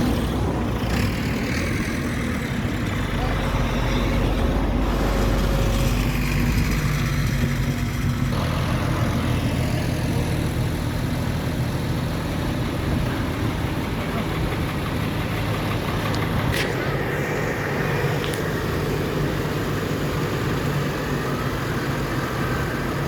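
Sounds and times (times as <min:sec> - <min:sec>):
tractor engines running: 0:00.0 - 0:23.0.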